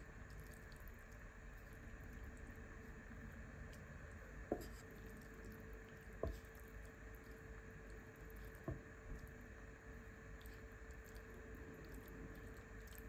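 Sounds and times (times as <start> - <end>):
soft squishing of mince: 0.0 - 13.0.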